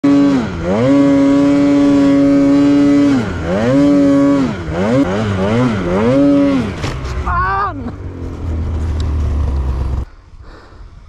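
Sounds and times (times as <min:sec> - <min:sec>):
snowmobile engine revving: 0:00.0 - 0:10.1.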